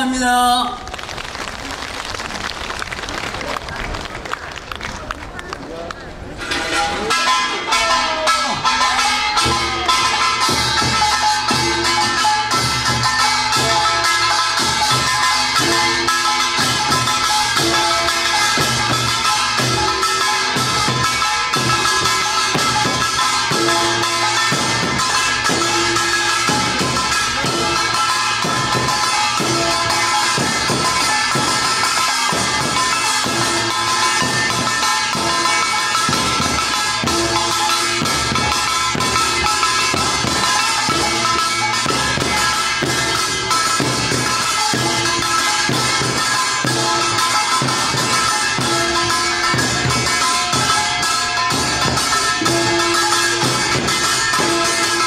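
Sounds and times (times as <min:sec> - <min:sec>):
drums beating steadily: 0:02.9 - 0:55.0
sustained ringing tones: 0:06.4 - 0:55.0.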